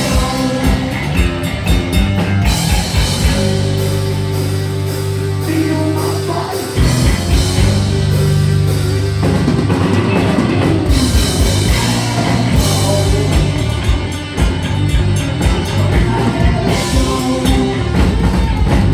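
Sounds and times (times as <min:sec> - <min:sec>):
heavy metal band playing live: 0:00.0 - 0:18.9.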